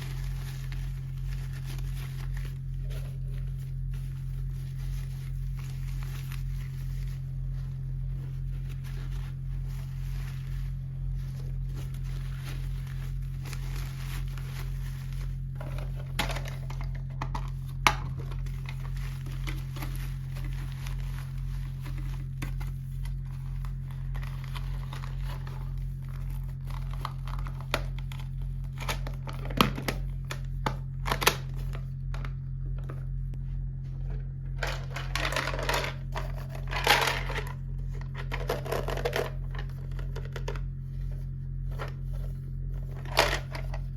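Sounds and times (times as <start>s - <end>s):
plastic packaging crinkling: 0.0s - 32.4s, 34.4s - 43.9s
steady low hum: 0.0s - 43.9s.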